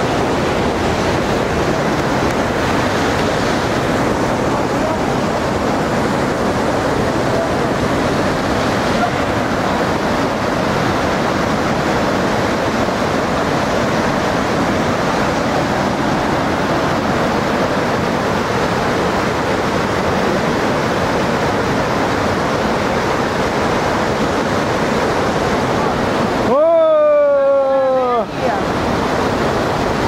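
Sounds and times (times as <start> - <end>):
river rapids rushing: 0.0 - 30.0.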